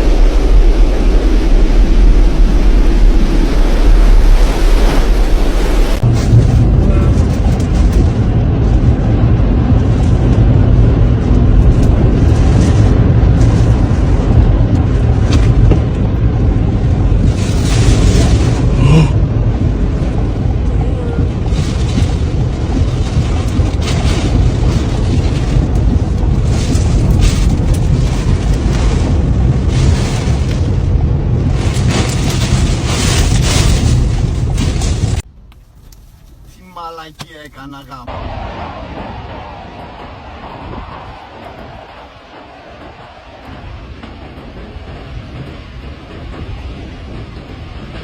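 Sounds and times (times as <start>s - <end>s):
wind buffeting microphone: 0.0s - 35.3s, 38.1s - 48.0s.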